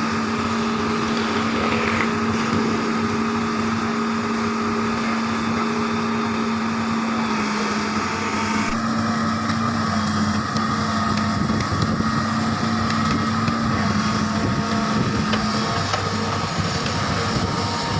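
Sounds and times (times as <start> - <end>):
diesel engine humming: 0.0 - 17.9.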